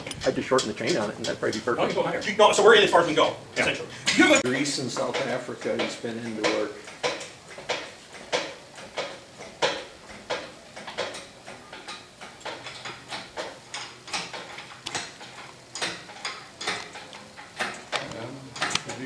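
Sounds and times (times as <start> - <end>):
hoist clicking: 0.0 - 19.0.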